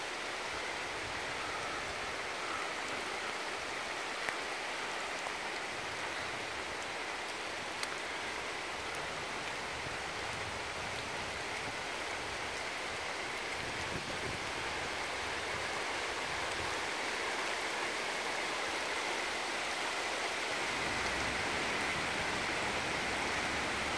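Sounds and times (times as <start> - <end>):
outdoor background hiss: 0.0 - 23.9.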